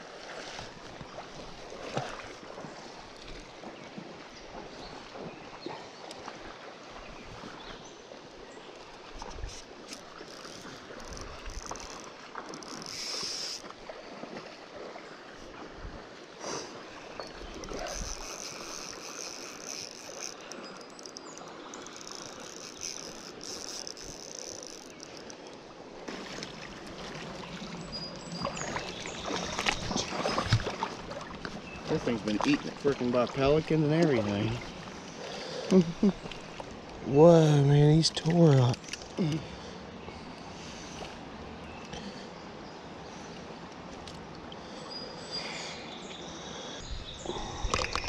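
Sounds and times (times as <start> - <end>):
river water running and splashing: 0.0 - 48.0.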